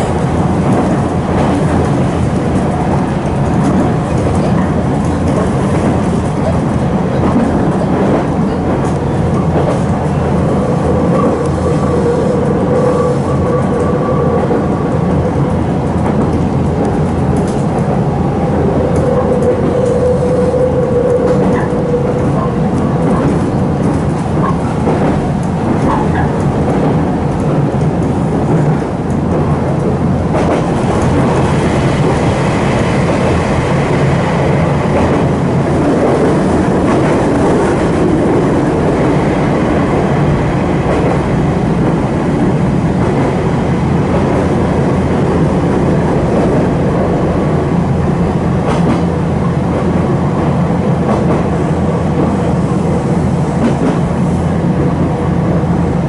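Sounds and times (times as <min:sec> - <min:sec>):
train wheels rumbling on rails: 0:00.0 - 0:56.0
train whine: 0:00.0 - 0:56.0.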